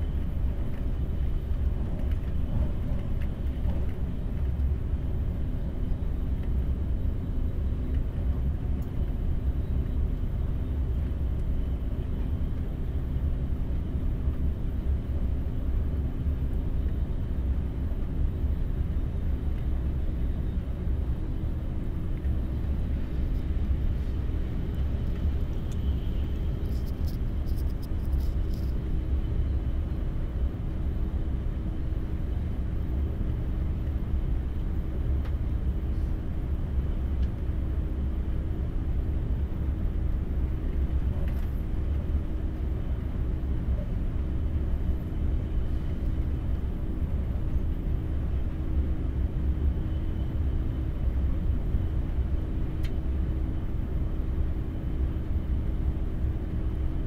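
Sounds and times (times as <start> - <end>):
faint steady hum: 0.0 - 57.0
train cabin rumble: 0.0 - 57.0.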